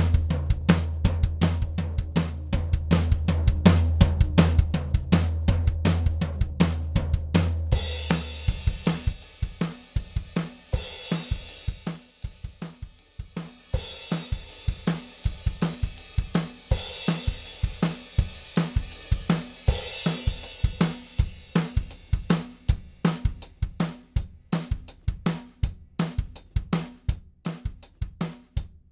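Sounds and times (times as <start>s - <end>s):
drum kit groove: 0.0s - 28.9s.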